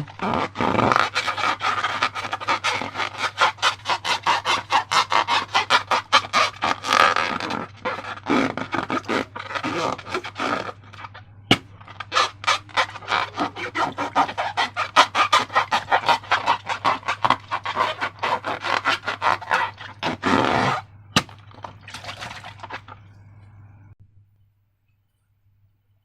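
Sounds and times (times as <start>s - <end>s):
slime squelching: 0.0s - 23.4s.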